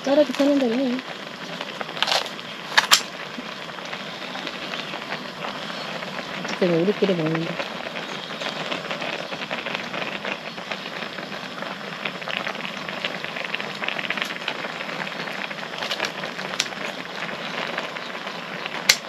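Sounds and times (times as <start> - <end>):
broth boiling and bubbling: 0.0 - 19.0.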